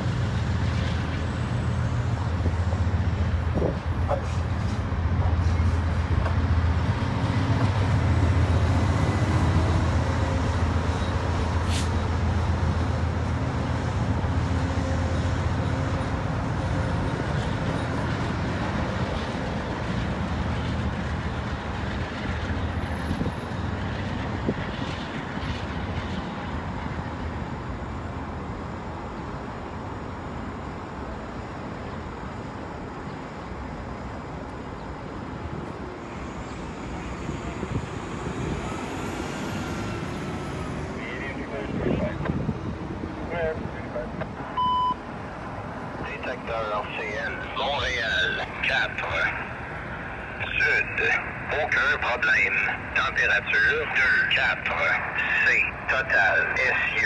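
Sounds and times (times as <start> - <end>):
city traffic noise: 0.0 - 57.0
train engine hum: 0.0 - 57.0.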